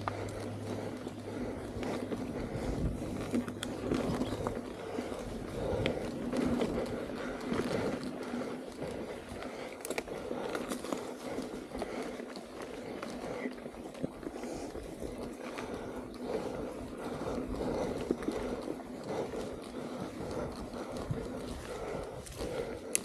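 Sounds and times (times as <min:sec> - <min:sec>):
bike rattling and knocking: 0:00.0 - 0:23.0
knobby tyres rolling on dirt: 0:00.0 - 0:23.0.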